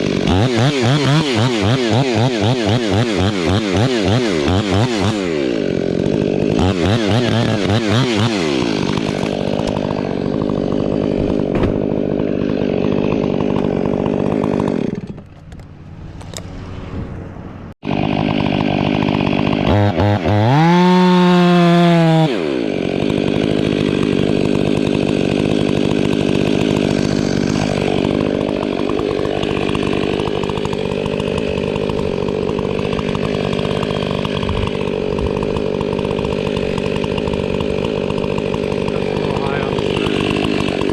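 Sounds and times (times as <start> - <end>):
chainsaw cutting wood: 0.0 - 16.7, 17.8 - 40.9.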